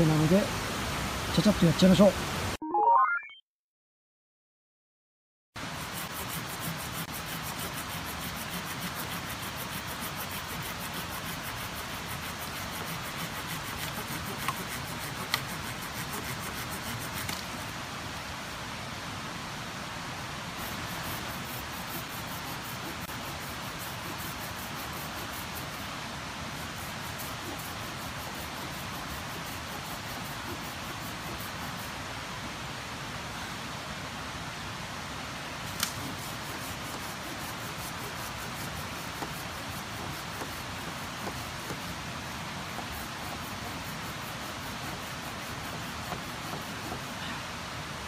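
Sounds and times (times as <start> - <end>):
mountain stream rushing: 0.0 - 2.6, 5.6 - 48.0.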